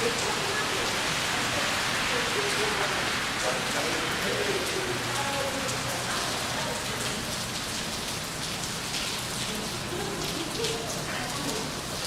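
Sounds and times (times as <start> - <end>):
rain pattering on hard surfaces: 0.0 - 12.0.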